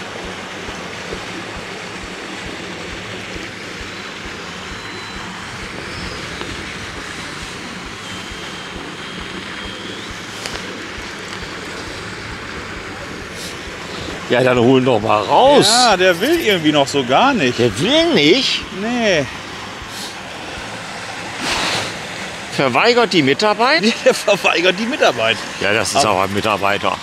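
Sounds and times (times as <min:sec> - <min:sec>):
fountain water splashing: 0:00.0 - 0:27.0
low steady hum: 0:00.0 - 0:27.0.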